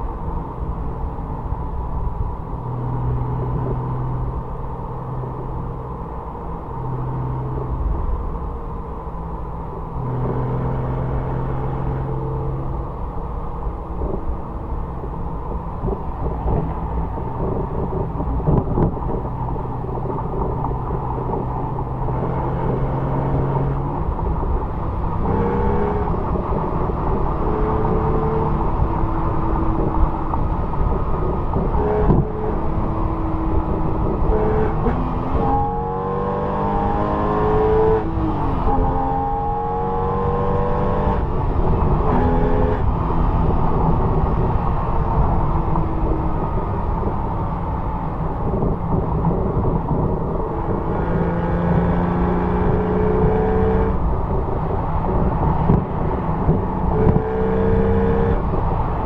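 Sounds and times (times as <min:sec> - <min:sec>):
road and wind rumble: 0:00.0 - 0:59.0
sports car engine revving: 0:00.6 - 0:59.0.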